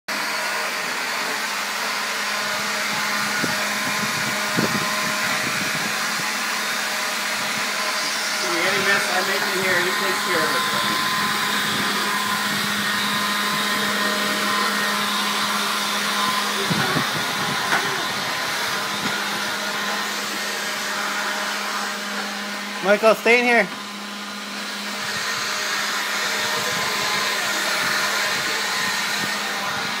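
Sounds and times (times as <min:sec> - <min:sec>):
leaf blower running: 0:00.1 - 0:30.0.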